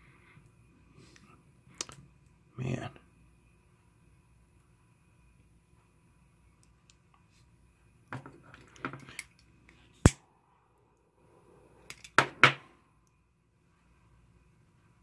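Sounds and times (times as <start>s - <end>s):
faint gas hiss: 0.0s - 8.1s, 8.8s - 15.0s.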